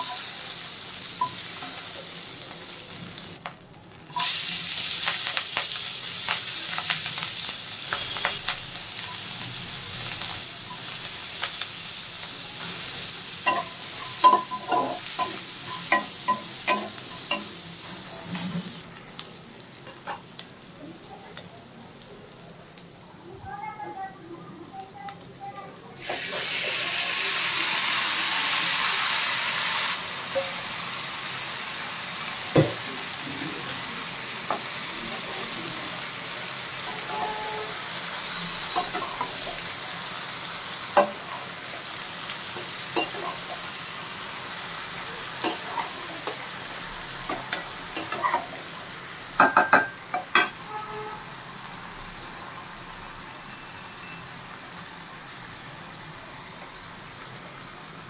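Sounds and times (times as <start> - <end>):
leaves sizzling in a pan: 0.0 - 58.0.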